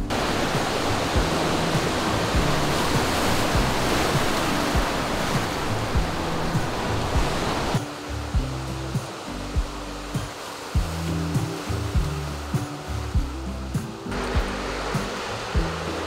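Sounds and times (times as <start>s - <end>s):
background music with steady beat: 0.0s - 16.0s
surf breaking on rocky shore: 0.0s - 16.0s.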